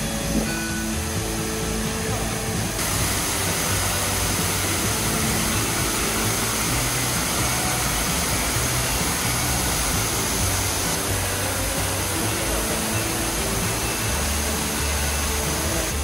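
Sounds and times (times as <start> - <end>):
soft background music: 0.0 - 16.0
waterfall rushing: 0.0 - 16.0.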